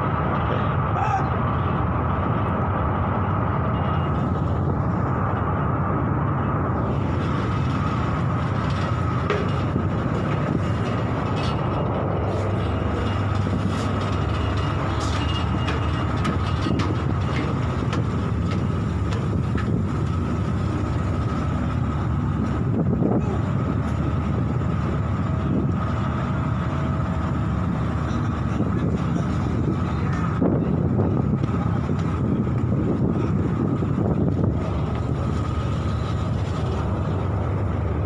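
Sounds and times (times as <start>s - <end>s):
loud rumble on a vessel: 0.0s - 38.0s.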